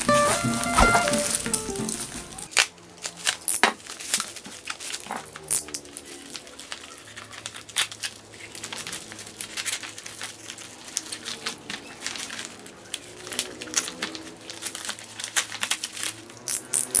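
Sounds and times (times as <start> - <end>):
plastic packaging crinkling: 0.0 - 16.5.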